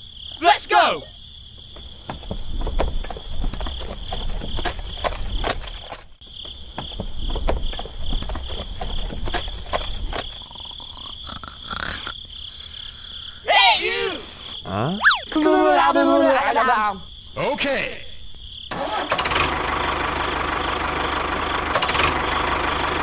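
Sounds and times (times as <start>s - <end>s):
crickets chirping: 0.0s - 18.7s.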